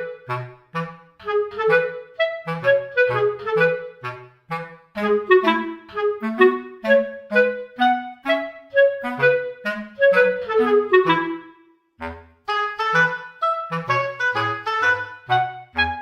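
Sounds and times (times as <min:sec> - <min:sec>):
melody of short notes: 0:01.3 - 0:16.0.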